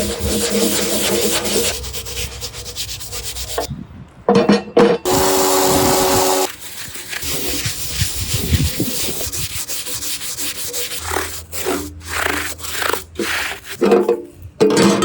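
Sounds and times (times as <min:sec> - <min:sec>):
abrasive rubbing on hard surface: 0:00.0 - 0:03.7, 0:05.1 - 0:13.8.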